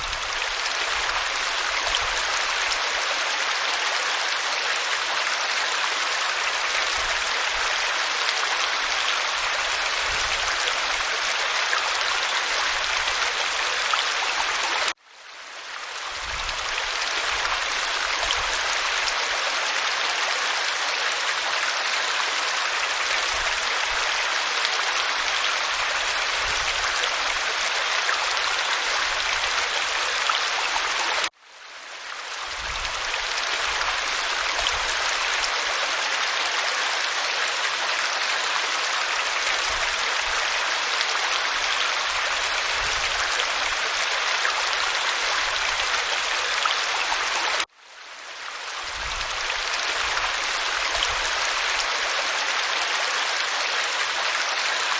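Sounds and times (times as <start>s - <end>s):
waterfall pouring over rock: 0.0s - 15.0s, 15.6s - 31.4s, 32.0s - 47.7s, 48.3s - 54.9s.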